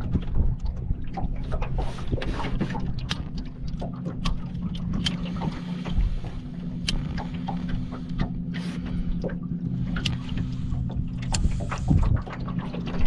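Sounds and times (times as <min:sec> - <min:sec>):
boat motor humming: 0:00.0 - 0:13.0
water slapping against hull: 0:00.0 - 0:13.0.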